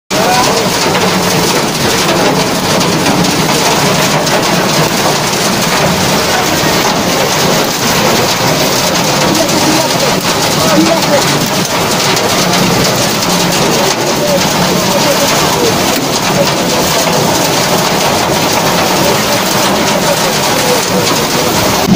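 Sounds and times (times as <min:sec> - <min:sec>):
hail and rain pelting down: 0:00.1 - 0:21.9.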